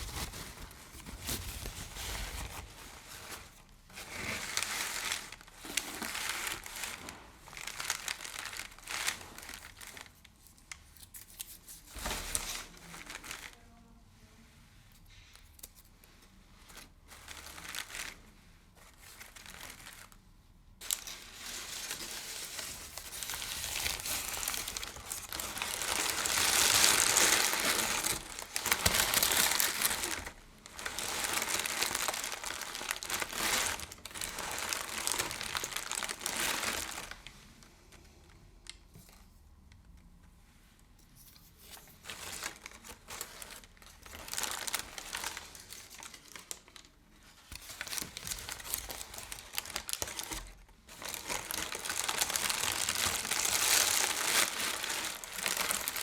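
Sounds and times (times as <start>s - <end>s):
crinkly material rustling: 0.0s - 56.0s.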